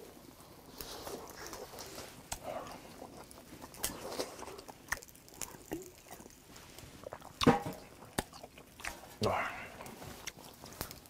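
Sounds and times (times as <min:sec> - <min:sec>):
man chewing: 0:00.4 - 0:11.0.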